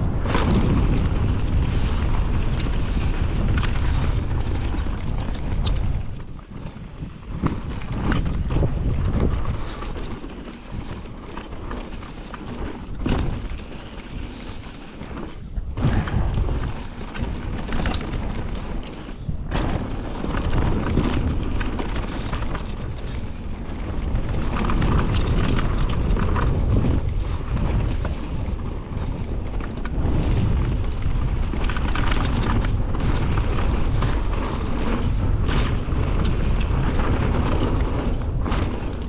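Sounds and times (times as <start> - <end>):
bike knocking and rattling: 0.0 - 39.0
wind buffeting microphone: 0.0 - 39.0.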